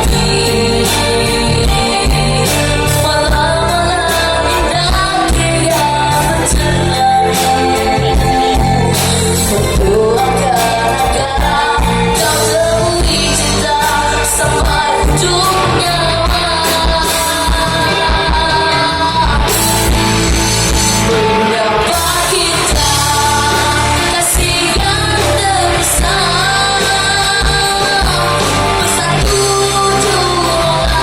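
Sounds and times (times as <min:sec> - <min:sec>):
pop band accompaniment: 0:00.0 - 0:31.0.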